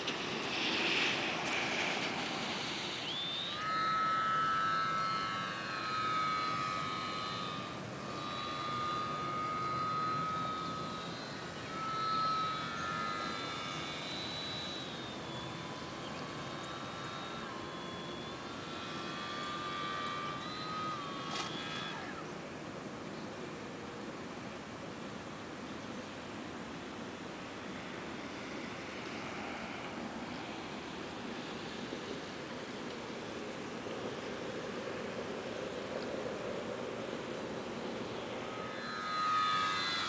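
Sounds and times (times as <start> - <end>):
model airplane motor whining: 0.0 - 40.0.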